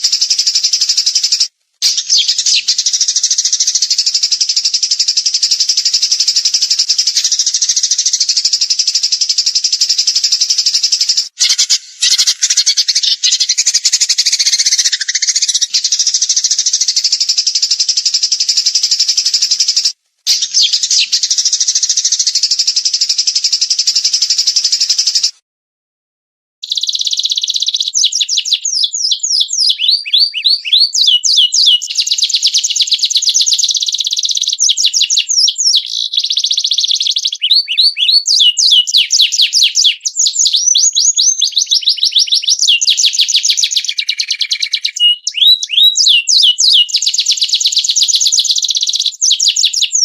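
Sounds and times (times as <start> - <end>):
songbird rapid high-pitched trill: 0.0 - 25.3, 26.6 - 50.0.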